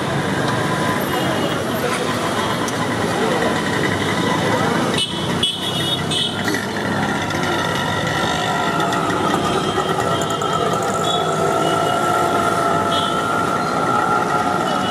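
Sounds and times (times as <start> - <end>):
engine hum: 0.0 - 14.9
street traffic: 0.0 - 14.9.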